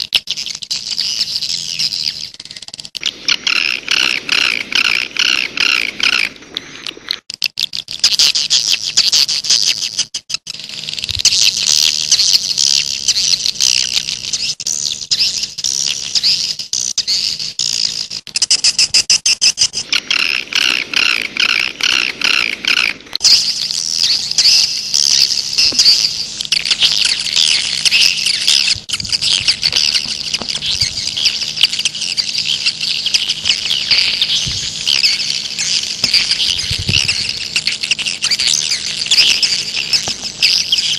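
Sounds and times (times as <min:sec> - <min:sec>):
flock of birds twittering: 0:00.0 - 0:40.9
rapid ticking bird trills: 0:00.0 - 0:40.9.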